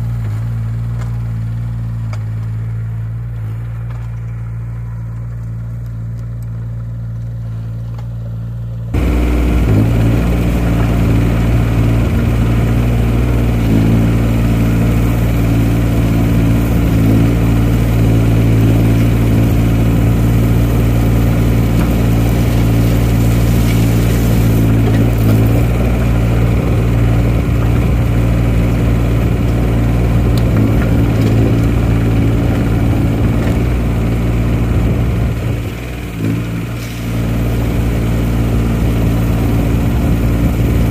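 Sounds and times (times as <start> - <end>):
diesel excavator engine running: 0.0 - 40.9.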